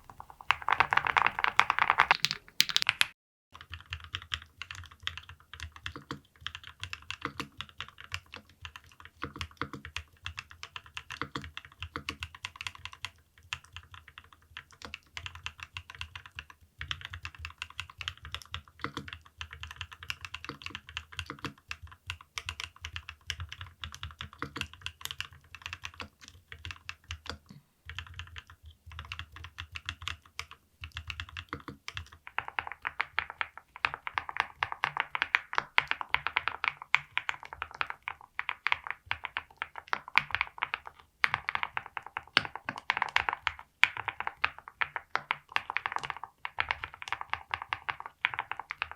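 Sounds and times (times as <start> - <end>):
fast typing on mechanical keyboard: 0.0 - 48.9.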